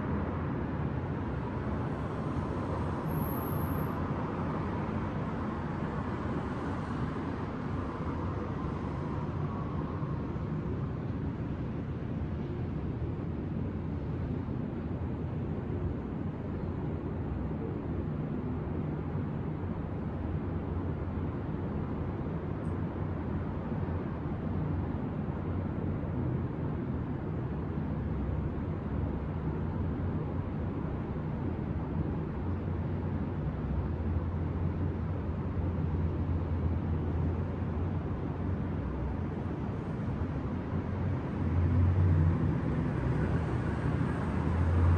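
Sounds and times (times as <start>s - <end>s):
city traffic rumble: 0.0s - 44.9s.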